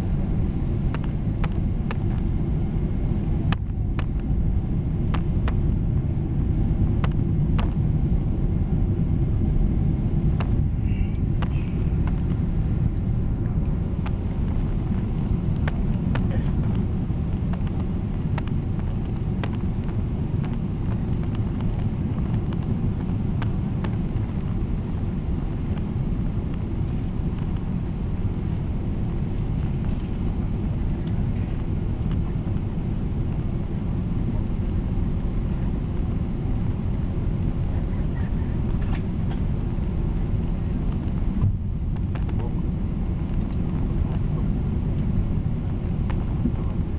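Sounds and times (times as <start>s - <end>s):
jet engines droning in cabin: 0.0s - 46.9s.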